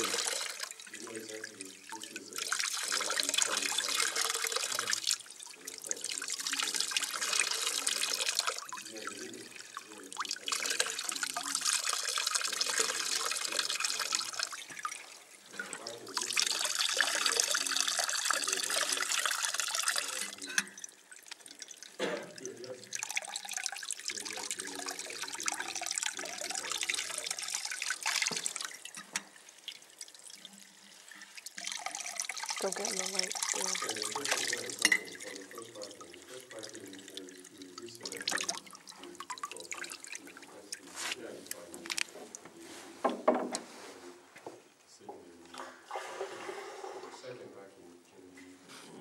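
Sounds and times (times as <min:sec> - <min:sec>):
wine pouring and splashing: 0:00.0 - 0:44.1, 0:45.4 - 0:47.6.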